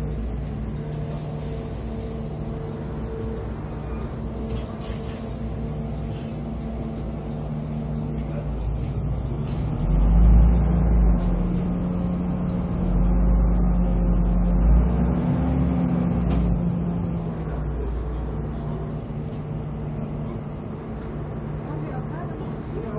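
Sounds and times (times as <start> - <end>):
bus diesel engine droning: 0.0 - 22.9.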